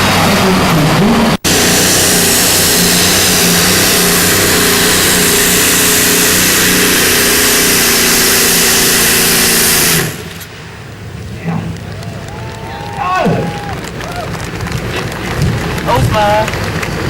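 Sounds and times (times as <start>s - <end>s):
pulling tractor engines running loud: 0.0s - 17.0s.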